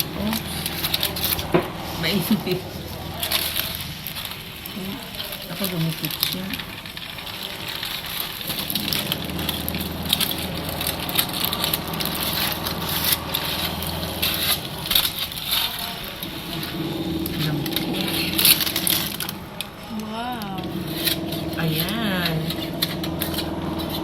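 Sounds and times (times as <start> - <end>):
low steady hum: 0.0 - 24.0
roast chicken crackling and sizzling: 0.0 - 24.0.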